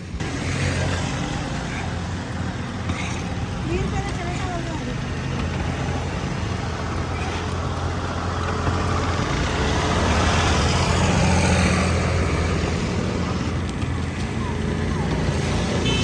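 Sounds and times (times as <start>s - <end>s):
low traffic engine hum: 0.0s - 16.0s
vehicle passing close by: 0.2s - 16.0s.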